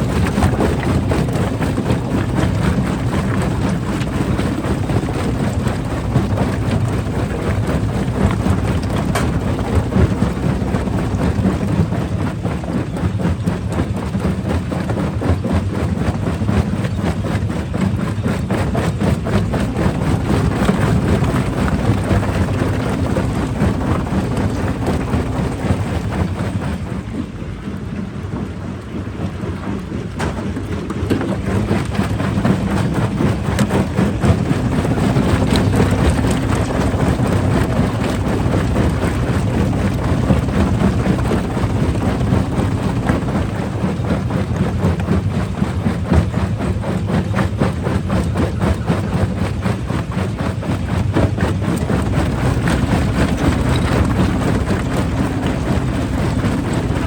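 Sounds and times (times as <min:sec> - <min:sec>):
low engine drone: 0:00.0 - 0:57.0.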